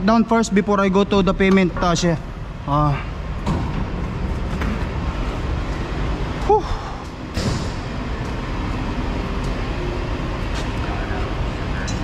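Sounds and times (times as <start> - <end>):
low vehicle rumble: 1.0 - 12.0.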